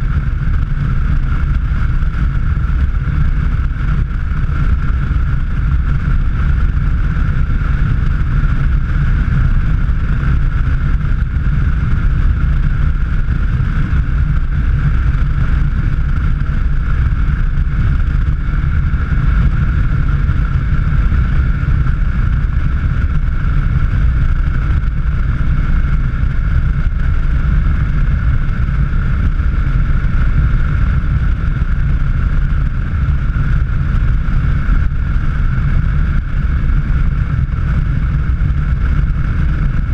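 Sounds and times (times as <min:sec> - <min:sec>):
car engine and road rumble: 0:00.0 - 0:39.9
wind buffeting microphone: 0:00.0 - 0:39.9.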